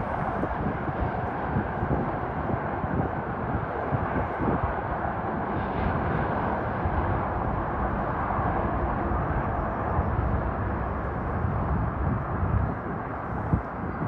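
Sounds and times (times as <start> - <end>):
freight train rumbling across bridge: 0.0 - 14.0.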